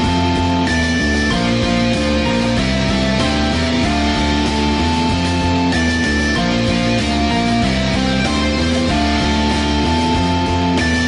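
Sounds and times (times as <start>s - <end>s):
bass line: 0.0s - 11.0s
guitar-led backing music: 0.0s - 11.0s.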